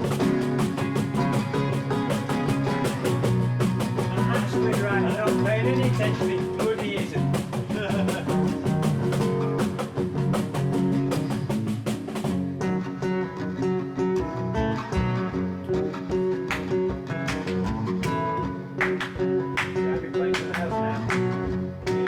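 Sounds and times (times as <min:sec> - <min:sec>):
drum kit: 0:00.0 - 0:12.8, 0:16.5 - 0:22.0
guitar: 0:00.0 - 0:22.0
wavering lead guitar line: 0:00.0 - 0:22.0.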